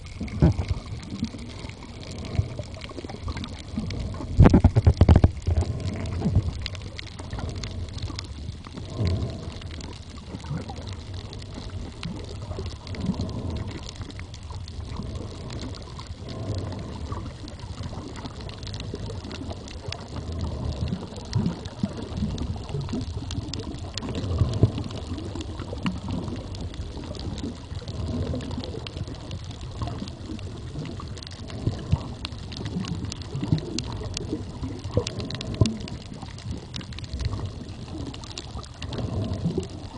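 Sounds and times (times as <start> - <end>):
faint clicks and crackles: 0.0 - 39.9
underwater rumble of water: 0.0 - 39.9.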